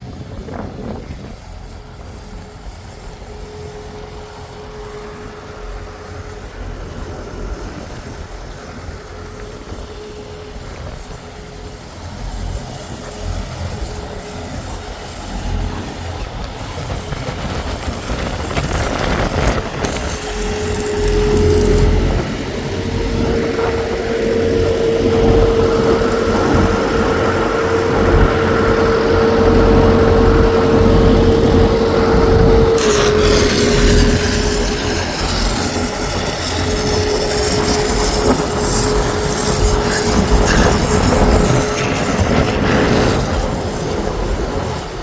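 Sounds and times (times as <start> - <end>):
heavy engine rumbling: 0.0 - 45.0
mid-pitched hum: 0.0 - 45.0.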